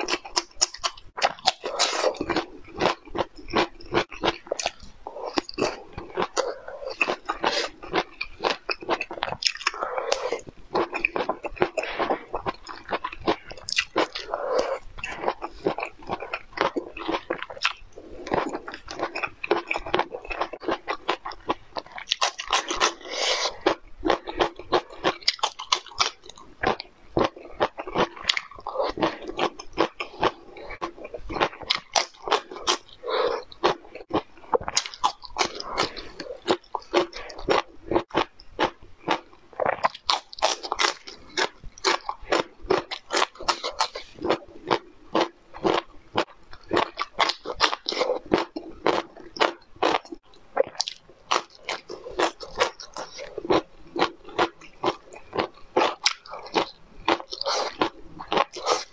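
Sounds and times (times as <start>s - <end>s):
chewing crunchy food: 0.0s - 58.9s.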